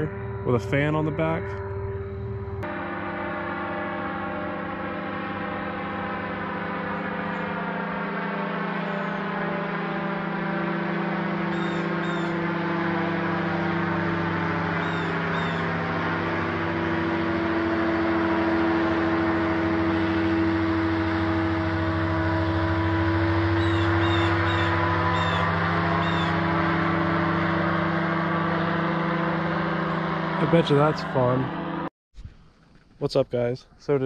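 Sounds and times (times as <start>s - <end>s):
paramotor engine and propeller: 0.0s - 33.1s.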